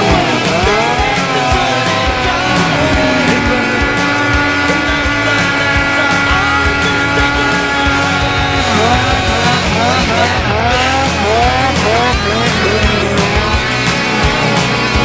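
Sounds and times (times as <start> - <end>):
rock music with distorted guitars: 0.0 - 15.0
steady drum beat: 0.0 - 15.0.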